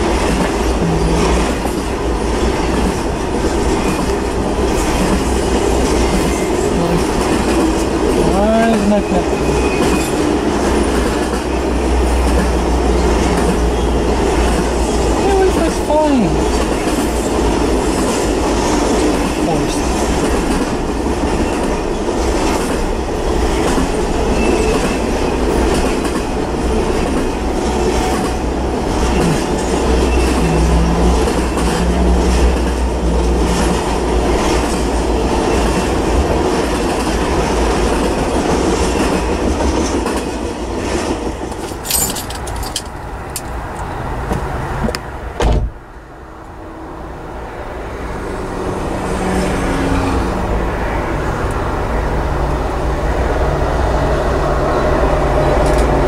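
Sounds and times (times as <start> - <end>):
freight train rumble and clatter: 0.0 - 56.0.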